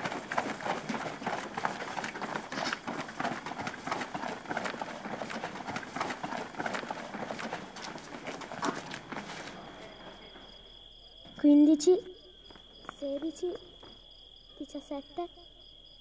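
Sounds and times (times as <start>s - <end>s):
children running on stone paving: 0.0s - 14.1s.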